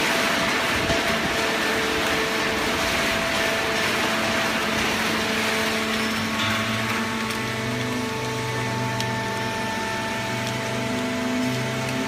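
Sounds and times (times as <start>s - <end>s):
deeper machine hum: 0.0s - 12.0s
machine hum: 0.0s - 12.0s.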